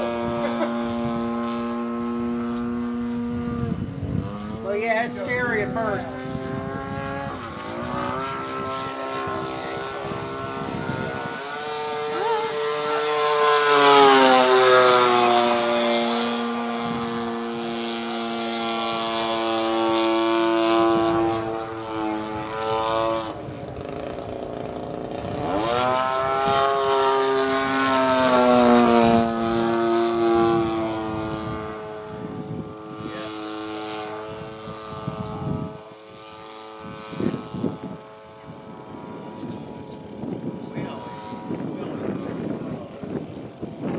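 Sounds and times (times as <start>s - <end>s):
model airplane engine running: 0.0s - 43.9s.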